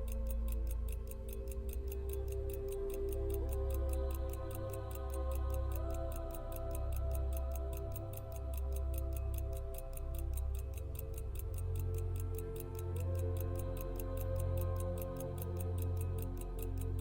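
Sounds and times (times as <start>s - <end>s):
pocket watch ticking: 0.0s - 17.0s
slow sustained music with bass: 0.0s - 17.0s.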